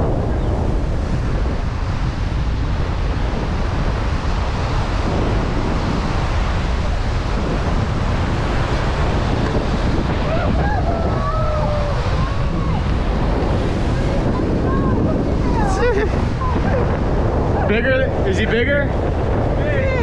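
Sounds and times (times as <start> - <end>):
heavy surf breaking on rocks: 0.0 - 20.0
wind buffeting microphone: 0.0 - 20.0.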